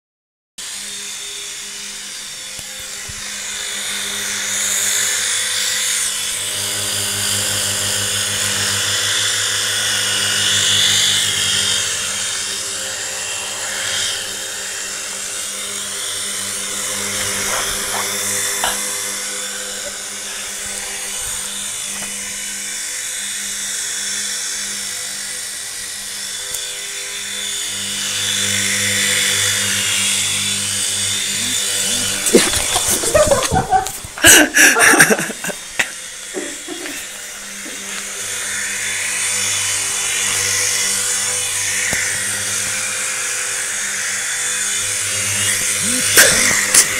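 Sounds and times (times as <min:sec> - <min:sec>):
toy helicopter rotors whining: 0:00.6 - 0:46.9.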